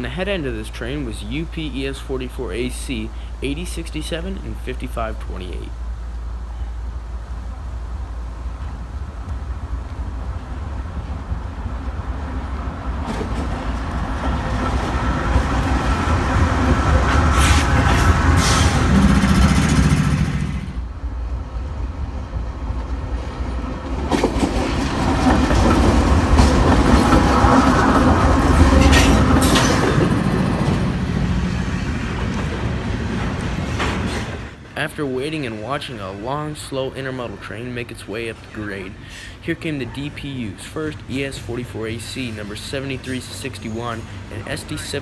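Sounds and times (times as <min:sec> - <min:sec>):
freight train rolling past: 0:00.0 - 0:45.0
wheels clicking over rail joints: 0:00.0 - 0:45.0.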